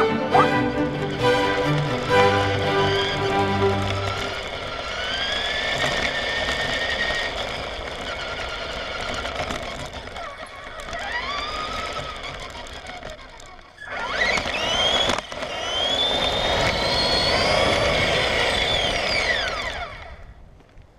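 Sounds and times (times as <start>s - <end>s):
electric motor whining: 0.0s - 20.2s
tyres rumbling on asphalt and dirt: 0.0s - 20.8s.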